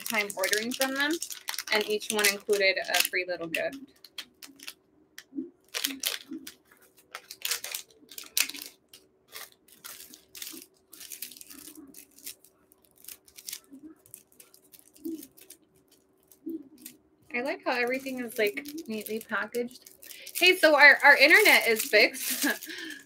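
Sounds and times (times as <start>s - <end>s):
plastic packaging crinkling and tearing: 0.0s - 4.8s, 5.7s - 23.0s.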